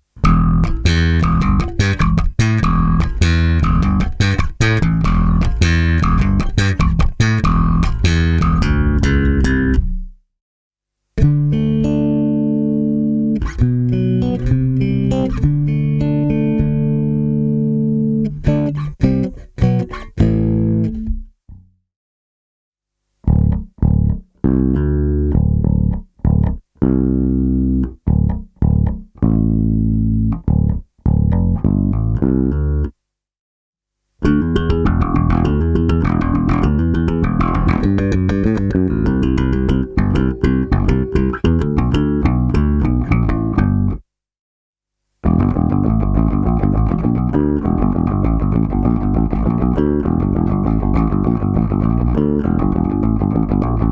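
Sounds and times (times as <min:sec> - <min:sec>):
bass guitar playing: 0:00.1 - 0:10.2, 0:11.2 - 0:21.8, 0:23.2 - 0:33.0, 0:34.2 - 0:44.0, 0:45.2 - 0:53.9.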